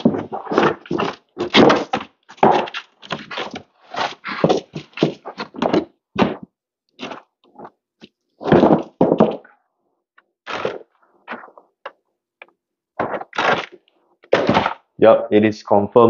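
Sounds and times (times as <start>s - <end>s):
objects knocking and thudding: 0.0s - 15.0s.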